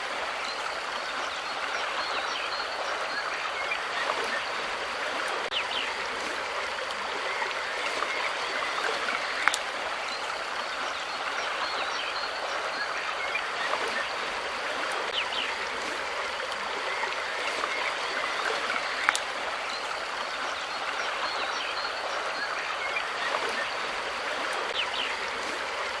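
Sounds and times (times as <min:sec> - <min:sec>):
flowing water rushing: 0:00.0 - 0:26.0.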